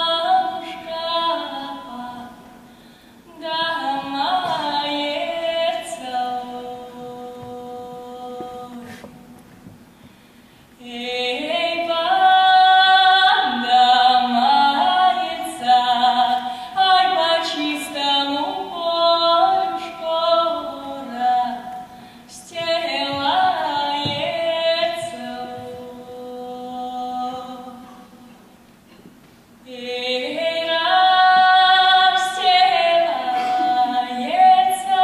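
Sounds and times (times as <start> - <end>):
woman singing folk song: 0.0 - 9.7, 10.8 - 28.3, 29.6 - 35.0.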